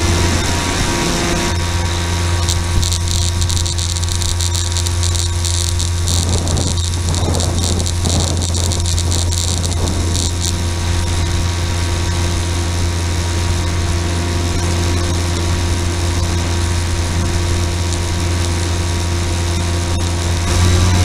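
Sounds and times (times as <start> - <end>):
model aircraft motor drone: 0.0 - 21.0
crackling hiss: 2.0 - 21.0.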